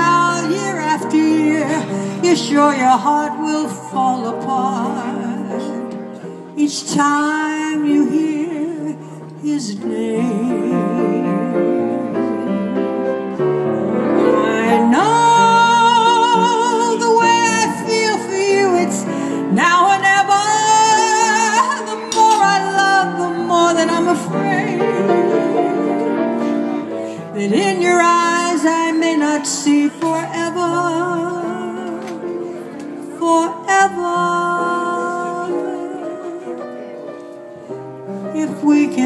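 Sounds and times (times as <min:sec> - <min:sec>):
woman singing a ballad: 0:00.0 - 0:13.0, 0:14.1 - 0:26.0, 0:27.1 - 0:36.9, 0:38.3 - 0:39.0
piano accompaniment: 0:00.0 - 0:39.0.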